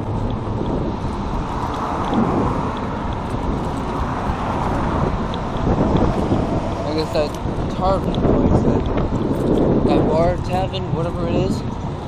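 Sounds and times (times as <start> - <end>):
road traffic: 0.0 - 12.0
wind rushing over microphone: 0.0 - 12.0.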